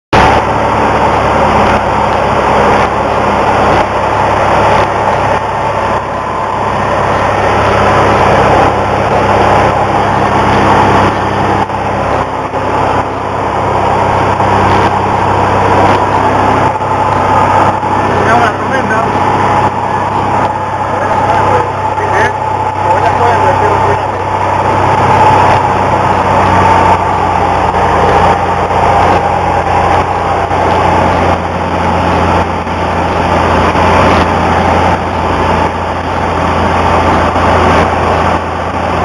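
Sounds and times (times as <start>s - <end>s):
airplane engine and propeller drone: 0.2s - 39.0s.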